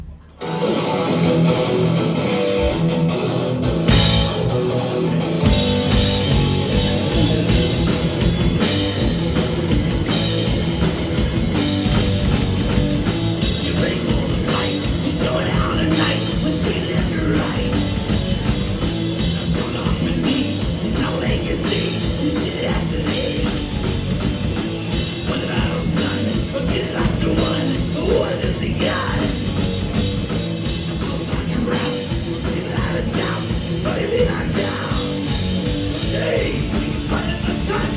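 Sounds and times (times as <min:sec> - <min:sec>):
drum kit: 0:00.0 - 0:37.9
electric guitar: 0:00.0 - 0:37.9.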